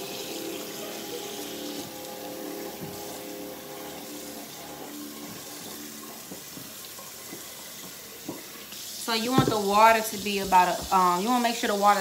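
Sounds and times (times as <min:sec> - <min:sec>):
kitchen faucet running: 0:00.0 - 0:12.0.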